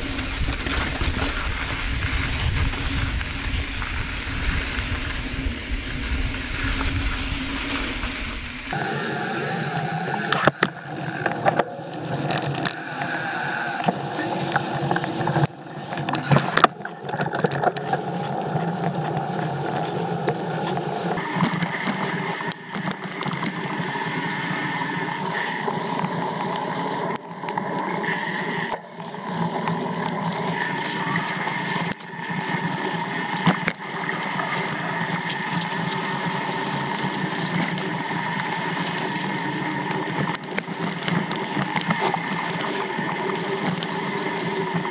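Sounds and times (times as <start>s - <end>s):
bike tyres rolling over dirt: 0.0s - 44.9s.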